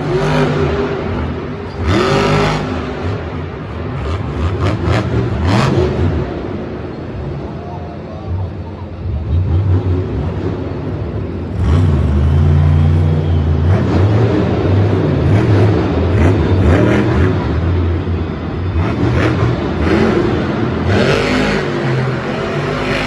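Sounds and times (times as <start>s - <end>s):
monster truck engines revving: 0.0s - 23.0s.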